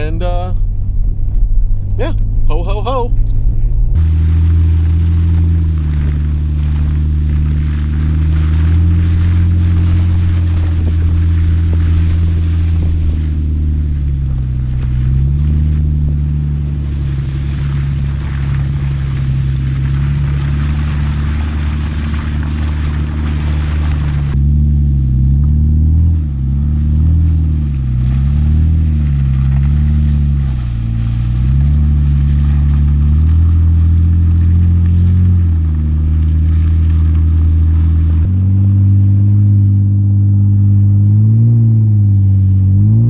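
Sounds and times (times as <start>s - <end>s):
tyre and road noise: 0.0s - 43.0s
vehicle engine running: 0.0s - 43.0s.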